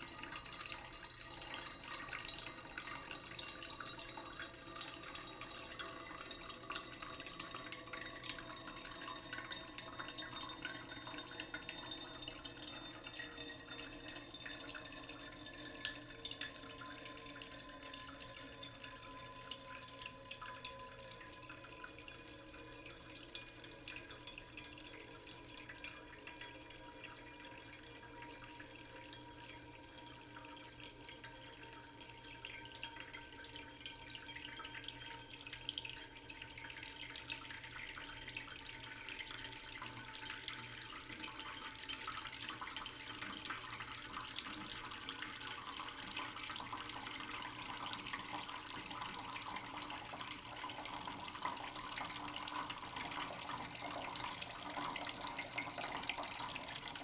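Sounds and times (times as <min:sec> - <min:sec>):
tap water trickling into pot: 0:00.0 - 0:57.0.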